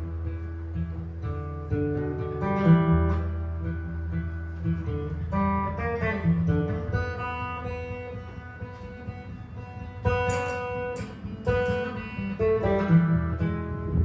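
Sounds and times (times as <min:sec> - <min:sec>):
jazz guitar improvising: 0:00.0 - 0:14.0.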